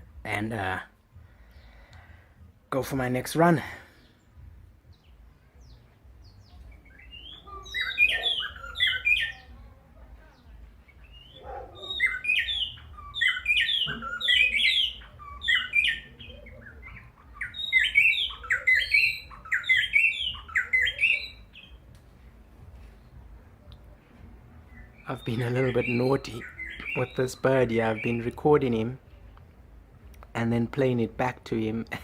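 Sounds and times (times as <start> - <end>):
songbird chirping song: 0.0 - 32.0.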